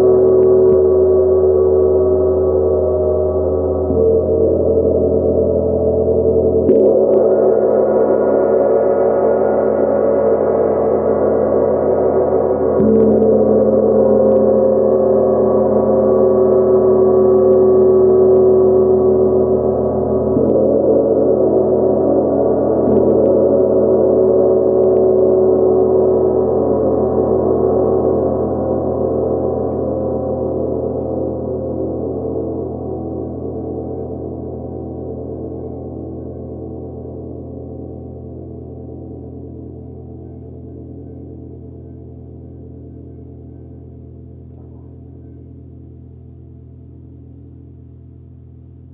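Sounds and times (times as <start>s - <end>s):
gong ringing: 0.0s - 45.9s.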